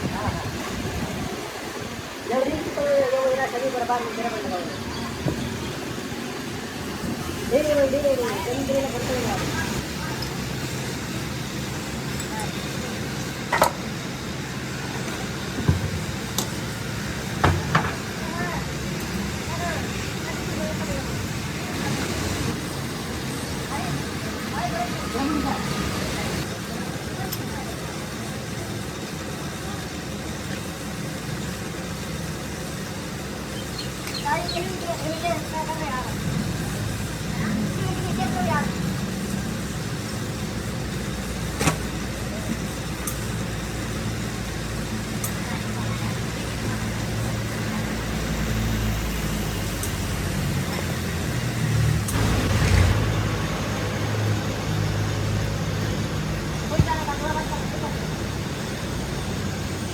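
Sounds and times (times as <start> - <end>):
rushing noise burst: 0.0 - 27.2, 27.8 - 59.9
low engine rumble: 0.0 - 59.9.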